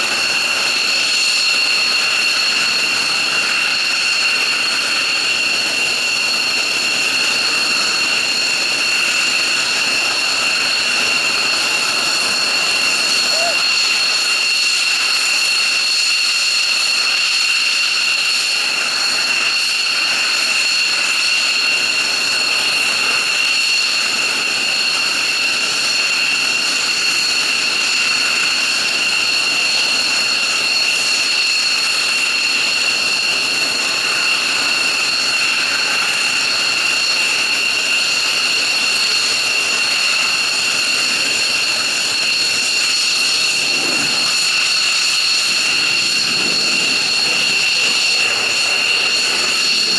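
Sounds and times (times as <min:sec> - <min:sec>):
jet engines idling whine: 0:00.0 - 0:49.9.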